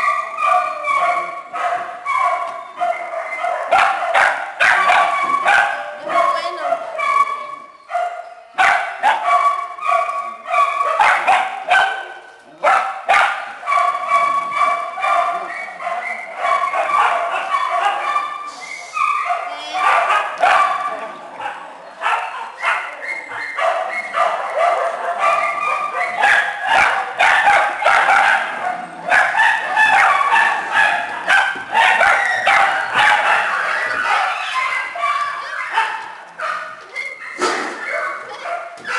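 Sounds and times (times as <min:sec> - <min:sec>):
small dogs barking and yipping: 0:00.0 - 0:38.9.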